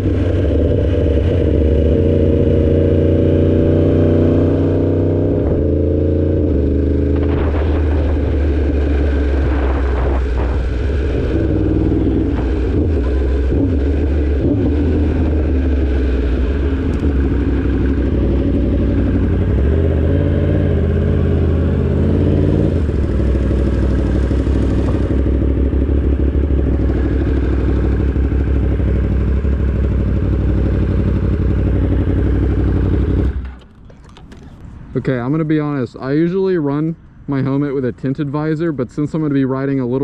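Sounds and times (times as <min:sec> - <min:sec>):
motorcycle engine running: 0:00.0 - 0:34.6.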